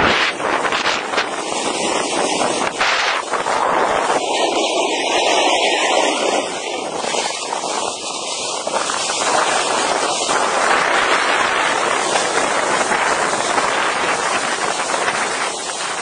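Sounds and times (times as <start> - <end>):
skis hissing over snow: 0.0 - 16.0
wind buffeting microphone: 0.0 - 16.0.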